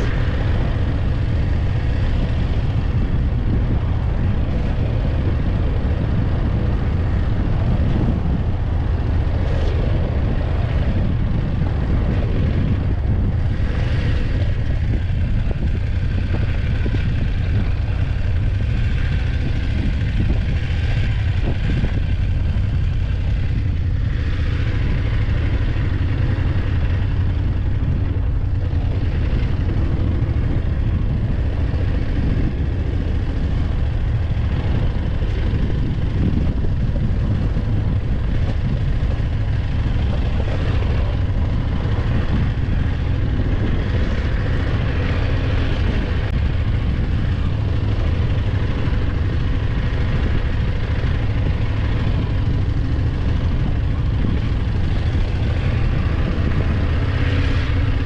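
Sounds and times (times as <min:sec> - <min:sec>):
motorcycle engine running: 0:00.0 - 0:58.0
rush of noise: 0:00.0 - 0:58.0.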